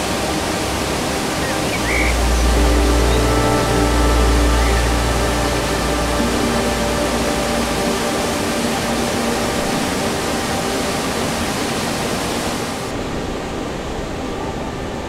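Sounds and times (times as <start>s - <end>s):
waterfall rushing onto rocks: 0.0s - 13.2s.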